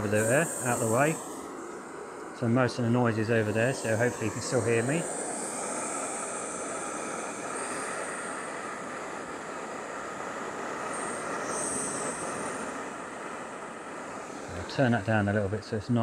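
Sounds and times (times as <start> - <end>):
gas stove burner hissing: 0.0 - 16.0.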